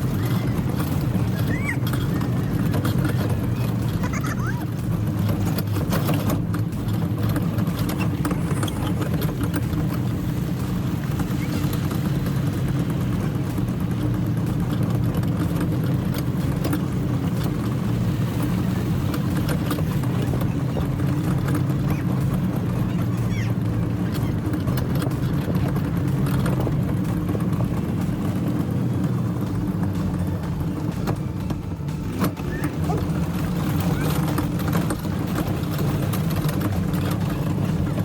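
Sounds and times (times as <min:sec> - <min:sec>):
vehicle engine running steadily: 0:00.0 - 0:38.0.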